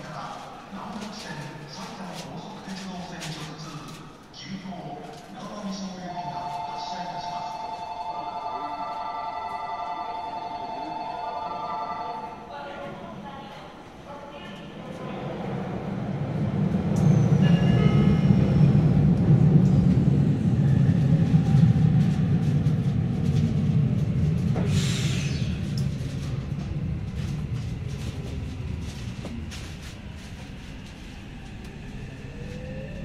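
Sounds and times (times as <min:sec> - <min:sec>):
subway train rumble: 0:00.0 - 0:33.0.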